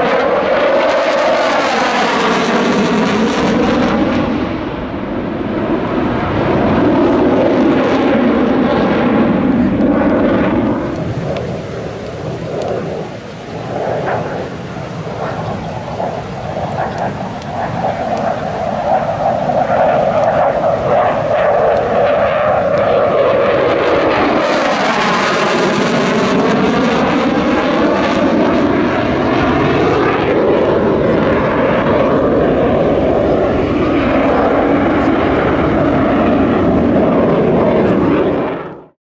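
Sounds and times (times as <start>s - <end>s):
fighter jet engine roar: 0.0s - 39.0s.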